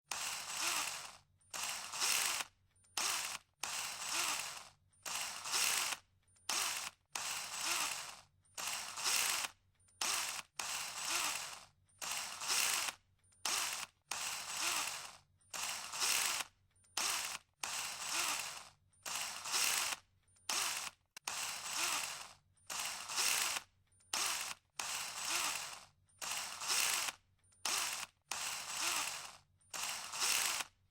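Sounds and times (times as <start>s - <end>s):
cordless drill running in bursts: 0.1s - 30.8s.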